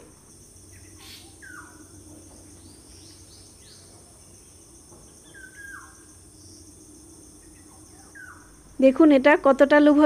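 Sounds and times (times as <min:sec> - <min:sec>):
insect trill: 0:00.0 - 0:10.0
low steady hum: 0:00.0 - 0:10.0.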